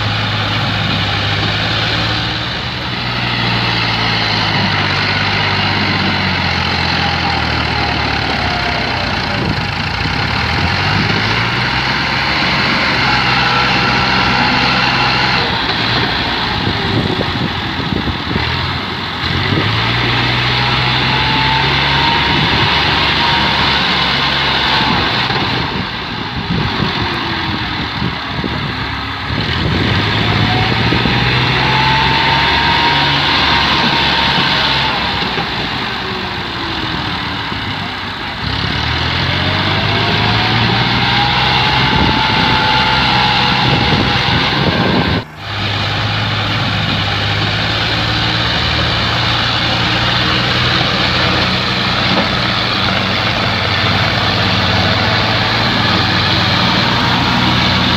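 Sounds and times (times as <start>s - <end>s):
tractor engine revving: 0.0s - 57.9s.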